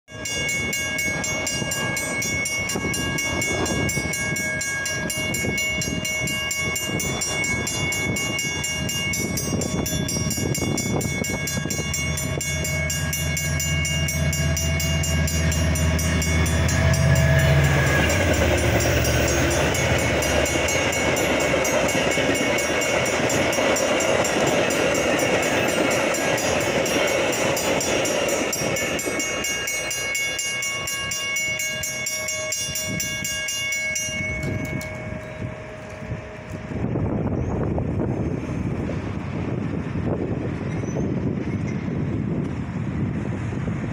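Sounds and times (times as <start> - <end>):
passing train drone: 0.1 - 43.9
railroad crossing bells ringing: 0.1 - 43.9
wheels rushing on rails: 0.1 - 43.9.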